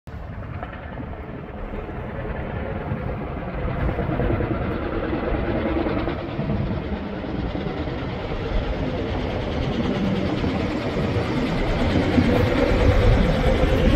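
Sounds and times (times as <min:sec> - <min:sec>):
helicopter rotor beating: 0:00.1 - 0:13.9.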